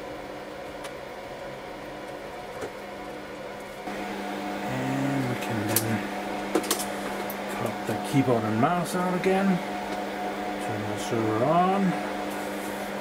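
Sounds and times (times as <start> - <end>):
computer equipment hum: 0.0 - 13.0.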